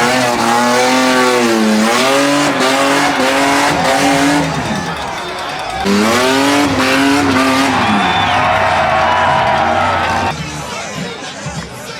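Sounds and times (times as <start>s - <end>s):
race car engine at high revs: 0.0s - 10.3s.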